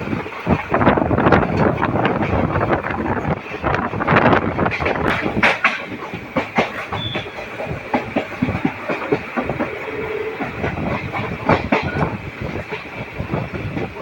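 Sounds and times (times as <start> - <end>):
train rumbling on track: 0.0 - 14.0
wheels clicking over rail joints: 0.0 - 14.0.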